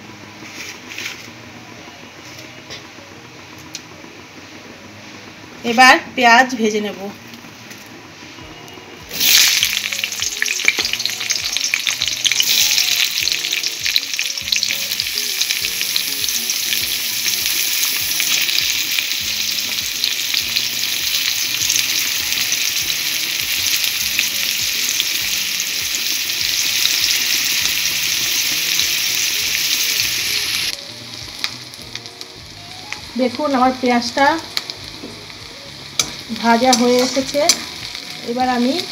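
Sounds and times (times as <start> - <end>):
onions sizzling in hot oil: 7.6 - 38.9.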